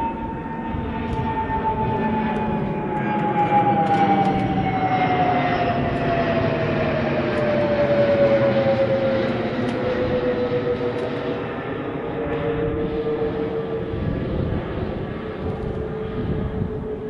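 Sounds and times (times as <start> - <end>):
jet aircraft passing overhead: 0.0 - 17.0.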